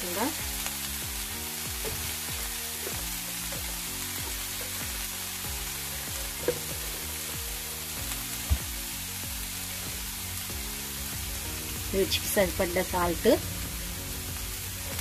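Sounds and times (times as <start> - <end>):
leaves sizzling in oil: 0.0 - 15.0
music of held low notes: 0.0 - 15.0.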